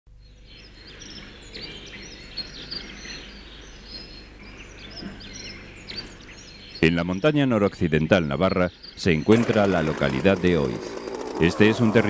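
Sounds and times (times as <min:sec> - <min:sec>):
birds chirping and calling: 0:00.2 - 0:12.0.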